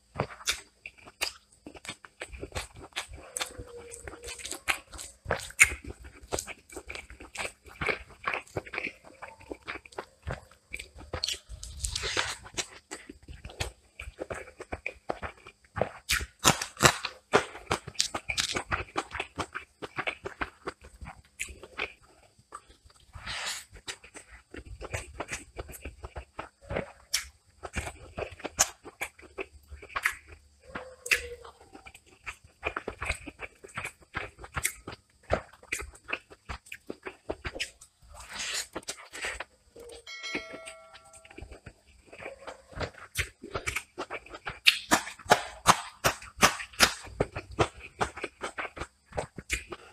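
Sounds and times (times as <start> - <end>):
wet chewing and mouth smacks: 0.1 - 40.0, 40.9 - 49.9.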